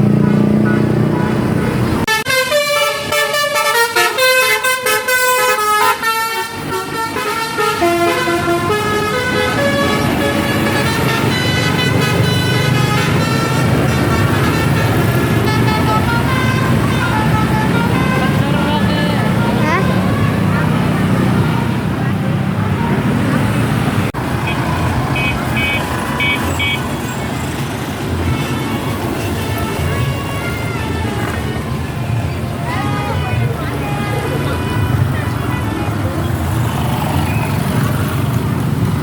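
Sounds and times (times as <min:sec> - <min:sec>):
bus engine: 0:00.0 - 0:39.0
road noise: 0:00.0 - 0:39.0
multi-tone bus horn melody: 0:00.5 - 0:26.9, 0:28.0 - 0:36.0.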